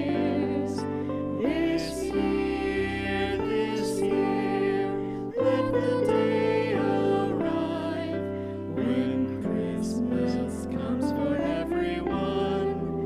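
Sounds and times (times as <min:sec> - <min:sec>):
person singing a hymn: 0:00.0 - 0:13.0
sustained accompaniment chords: 0:00.0 - 0:13.0.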